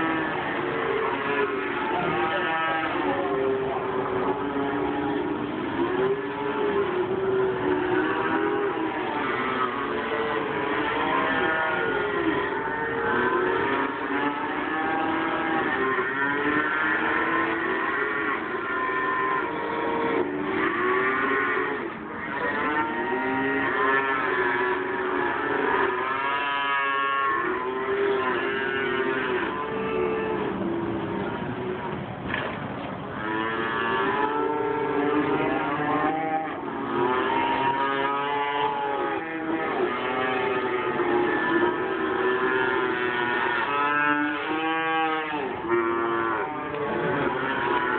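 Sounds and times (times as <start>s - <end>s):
calves bawling: 0.0s - 32.0s, 33.0s - 47.9s.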